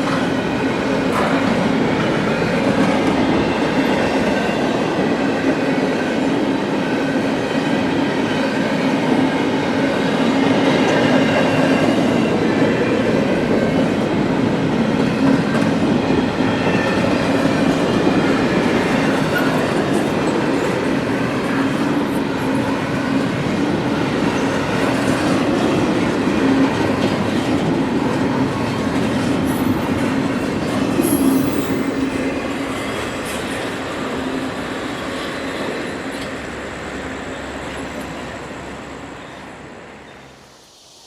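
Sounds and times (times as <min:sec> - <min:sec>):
train wheels clattering on rails: 0:00.0 - 0:38.6.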